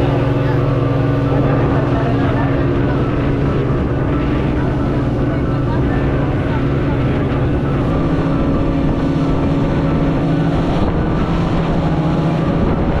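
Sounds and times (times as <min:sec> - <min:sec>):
speedboat engine running: 0:00.0 - 0:13.0
water splashing along hull: 0:00.0 - 0:13.0.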